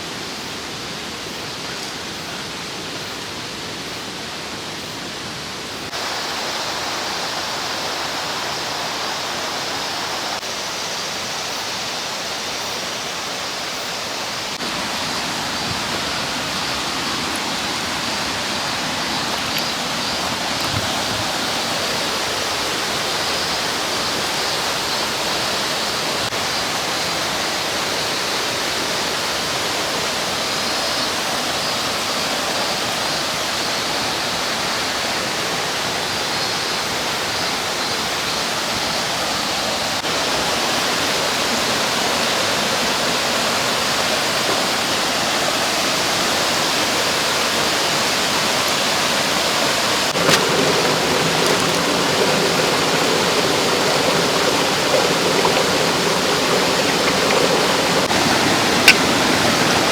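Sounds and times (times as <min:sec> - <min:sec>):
stream rushing over rocks: 0:00.1 - 0:36.6, 0:39.3 - 0:59.9.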